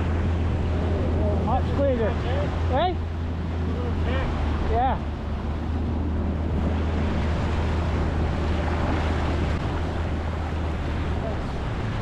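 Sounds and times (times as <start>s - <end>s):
low engine hum: 0.0s - 12.0s
water wash: 0.0s - 12.0s
wind on microphone: 0.0s - 12.0s.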